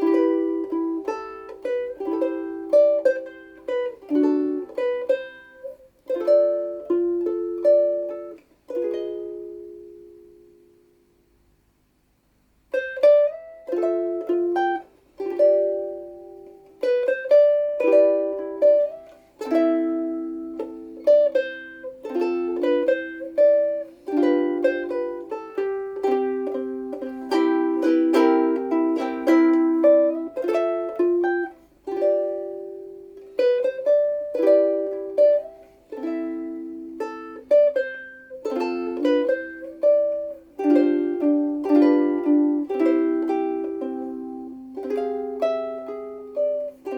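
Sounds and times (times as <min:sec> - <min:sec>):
plucked ukulele melody: 0:00.0 - 0:11.4, 0:12.6 - 0:46.9.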